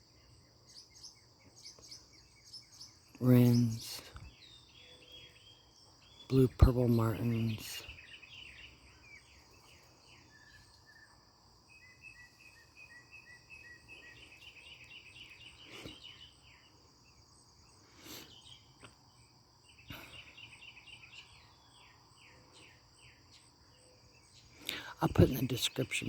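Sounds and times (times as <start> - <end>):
bird chirping: 0.0 - 26.0
crickets and insects droning: 0.0 - 26.0.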